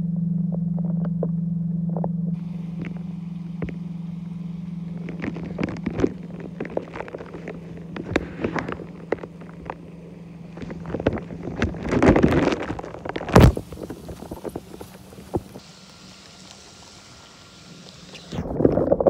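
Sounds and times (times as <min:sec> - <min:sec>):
pump hum through water: 0:00.0 - 0:19.0.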